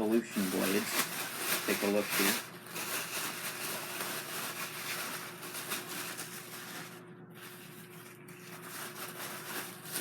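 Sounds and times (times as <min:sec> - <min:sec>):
packaging rustling: 0:00.0 - 0:10.0.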